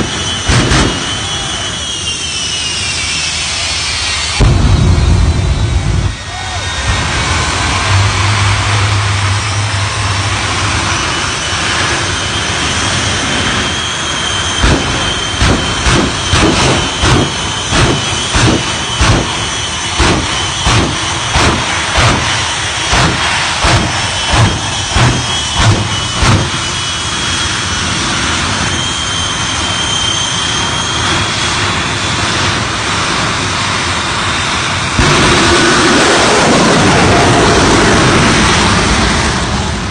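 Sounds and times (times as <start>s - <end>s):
afterburner bangs: 0.0s - 3.2s, 4.2s - 29.7s, 31.0s - 39.8s
jet engines roaring: 0.0s - 39.9s.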